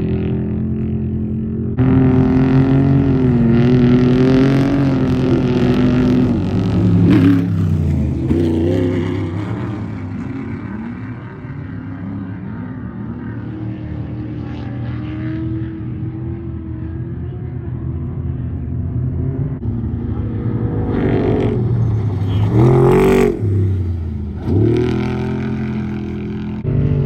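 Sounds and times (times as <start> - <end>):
race engine revving: 0.0 - 27.0.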